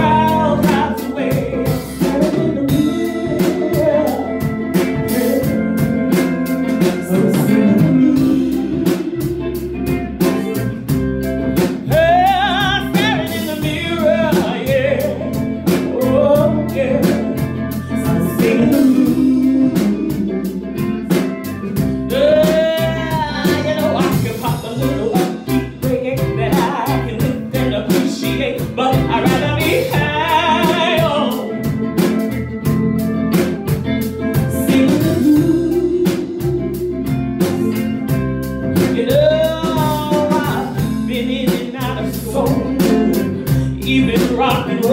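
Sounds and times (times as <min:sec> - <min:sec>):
woman singing: 0:00.0 - 0:32.3, 0:34.3 - 0:44.9
blues band playing live: 0:00.0 - 0:44.9.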